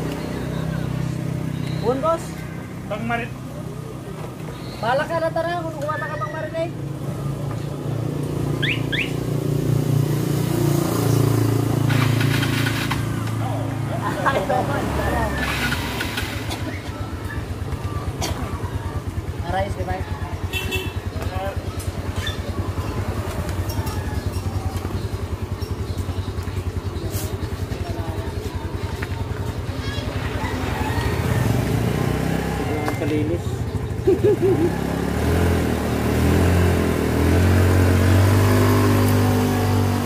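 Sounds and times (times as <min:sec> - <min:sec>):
vehicle engine droning: 0:00.0 - 0:40.0.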